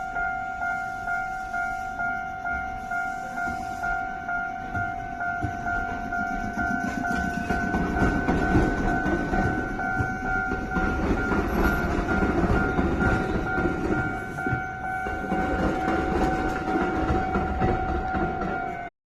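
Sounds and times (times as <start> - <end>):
level-crossing warning signal: 0.0 - 18.9
train rumbling over crossing: 0.0 - 18.9.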